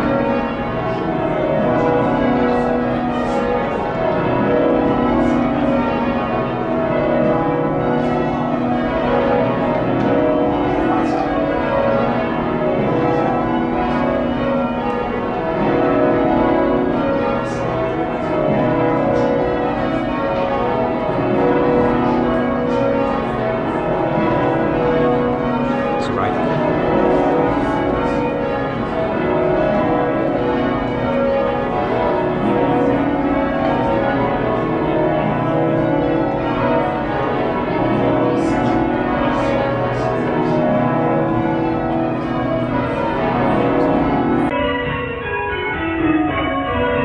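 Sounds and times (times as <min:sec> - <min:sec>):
church bells ringing: 0:00.0 - 0:47.0.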